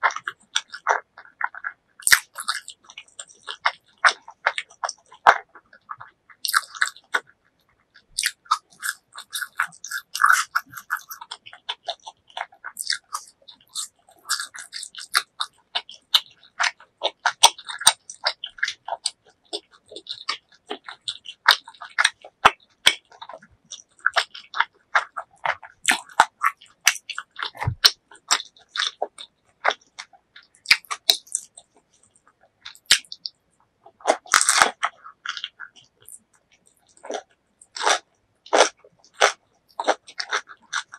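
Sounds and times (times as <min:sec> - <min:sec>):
person chewing with mouth closed: 0:00.0 - 0:40.9.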